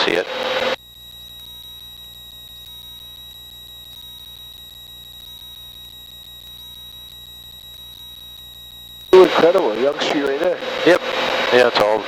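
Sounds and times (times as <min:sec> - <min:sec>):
high-pitched electronic whine: 0:00.0 - 0:12.0.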